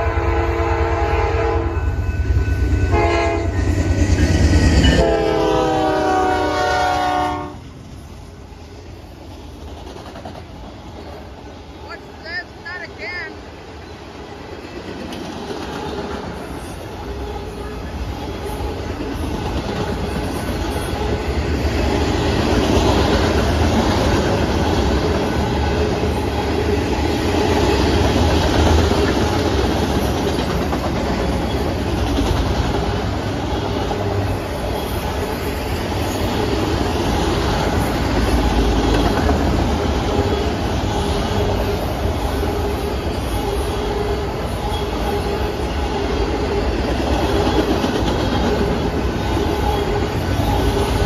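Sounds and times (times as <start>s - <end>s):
freight train wheels rumbling on rails: 0.0s - 51.0s.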